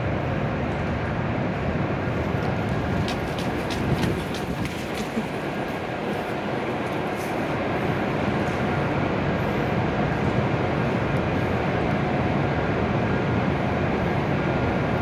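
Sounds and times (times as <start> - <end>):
faint constant whine: 0.0 - 15.0
train equipment hum and hiss: 0.0 - 15.0.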